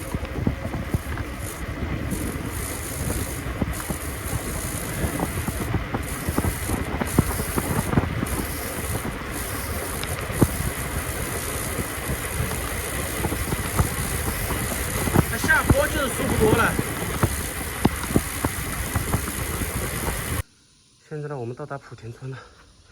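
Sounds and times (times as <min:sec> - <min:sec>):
small rattling clicks: 0:00.0 - 0:20.4
wind rushing over microphone: 0:00.0 - 0:20.4.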